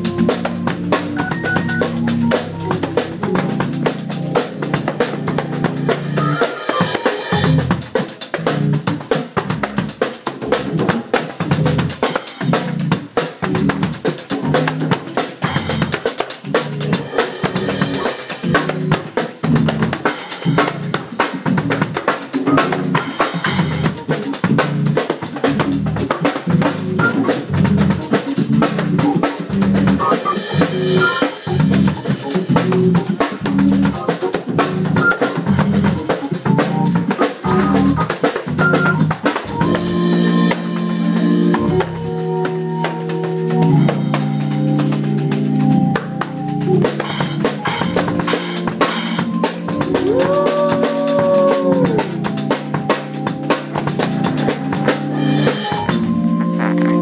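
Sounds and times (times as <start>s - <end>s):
drums and cymbals: 0.0s - 57.0s
organ playing: 0.0s - 57.0s.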